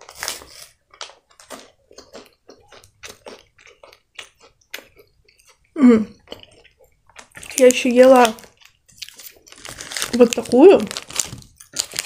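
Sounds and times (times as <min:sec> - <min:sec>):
crisp chewing crunches: 0:00.0 - 0:12.0.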